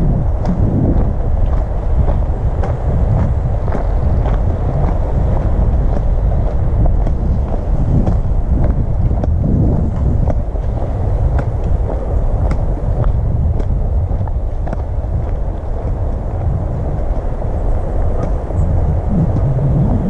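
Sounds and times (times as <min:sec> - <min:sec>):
footsteps on forest track: 0:00.0 - 0:20.0
wind buffeting microphone: 0:00.0 - 0:20.0.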